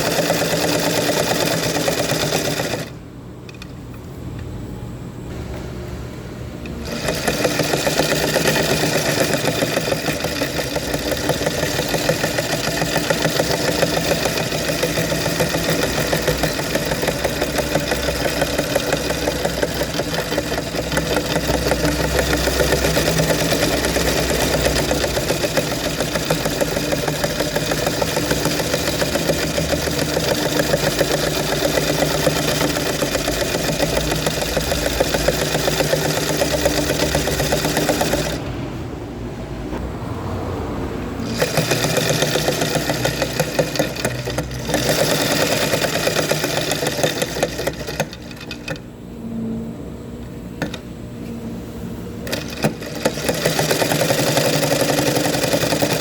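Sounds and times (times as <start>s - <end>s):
sewing machine stitching: 0.0s - 3.7s, 6.7s - 38.5s, 41.2s - 48.8s, 50.6s - 50.8s, 52.2s - 56.0s
motor hum: 0.0s - 56.0s.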